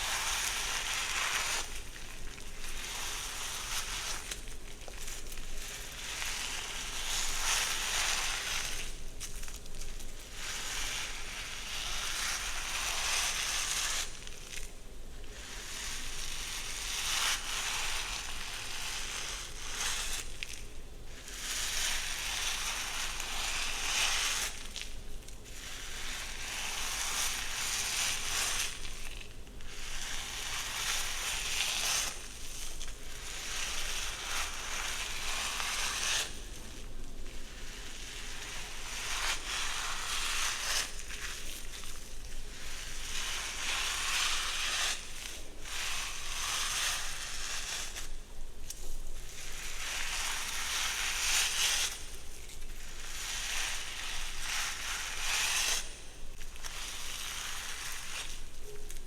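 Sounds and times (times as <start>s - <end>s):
hair rustling when brushed: 0.0s - 14.7s, 15.3s - 59.0s.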